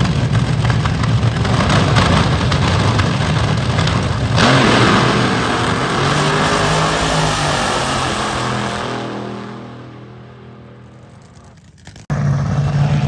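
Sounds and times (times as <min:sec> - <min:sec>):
drag race car engine: 0:00.0 - 0:13.0.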